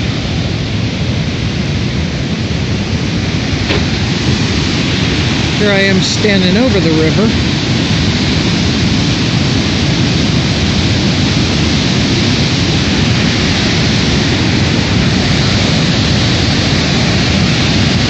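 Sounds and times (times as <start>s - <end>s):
whitewater rapids rushing: 0.0s - 18.0s.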